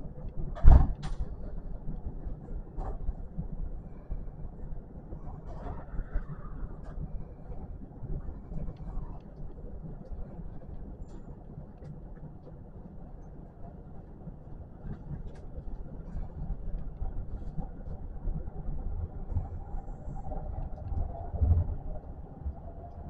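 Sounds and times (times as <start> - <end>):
faint whine: 0.0 - 23.0
train wheels rumbling on rail: 0.0 - 23.0.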